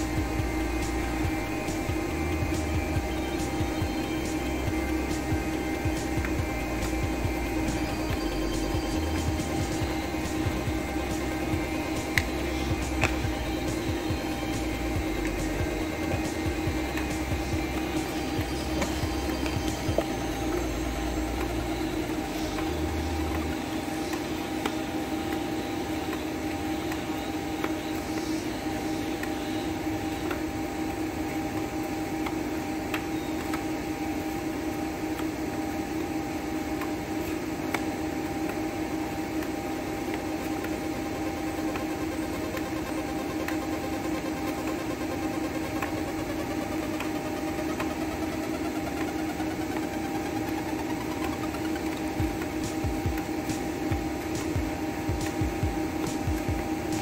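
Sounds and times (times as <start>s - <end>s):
machine humming: 0.0s - 57.0s.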